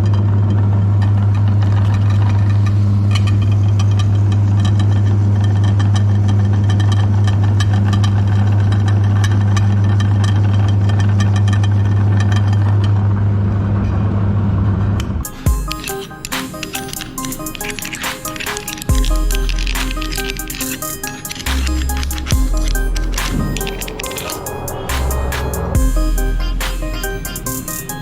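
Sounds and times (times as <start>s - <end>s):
cookies crackling in grinder: 0.0s - 13.4s, 15.2s - 25.6s
meat grinder motor hum: 0.0s - 13.8s, 14.5s - 28.0s.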